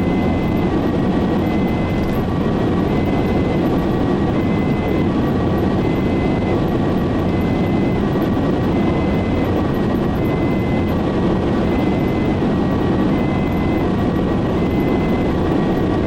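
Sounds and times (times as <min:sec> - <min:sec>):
road and engine noise: 0:00.0 - 0:16.0
two-tone siren: 0:00.0 - 0:16.0.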